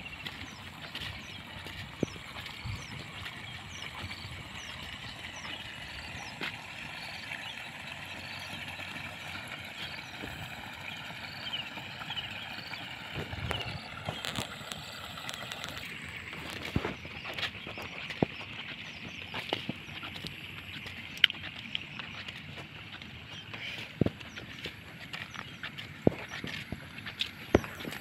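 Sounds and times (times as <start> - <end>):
wind rumble on microphone: 0.0 - 7.4, 11.9 - 28.0
high chirping chorus: 0.0 - 28.0.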